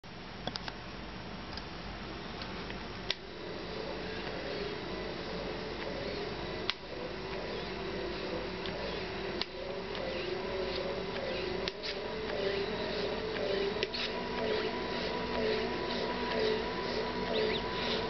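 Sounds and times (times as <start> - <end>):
pump motor humming: 3.1 - 18.0.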